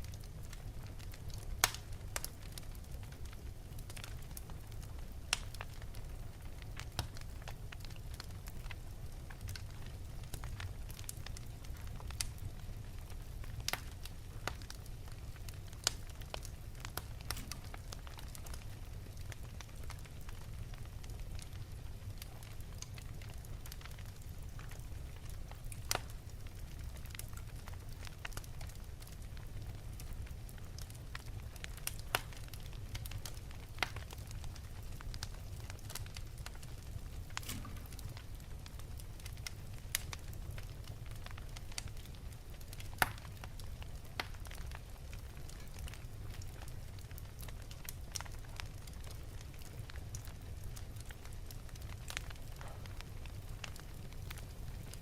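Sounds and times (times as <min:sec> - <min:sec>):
fire popping and crackling: 0:00.0 - 0:55.0
flame rumbling: 0:00.0 - 0:55.0.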